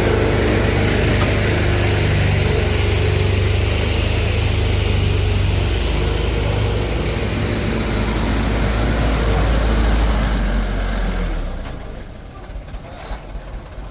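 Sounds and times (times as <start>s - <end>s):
diesel engine rumbling: 0.0s - 13.9s.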